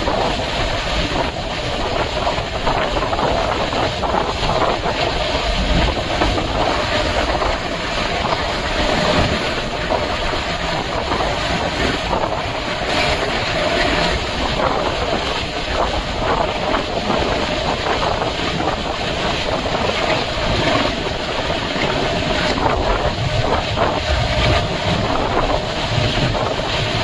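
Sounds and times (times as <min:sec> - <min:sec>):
train wheel and track noise: 0:00.0 - 0:27.0
wind buffeting microphone: 0:00.0 - 0:27.0.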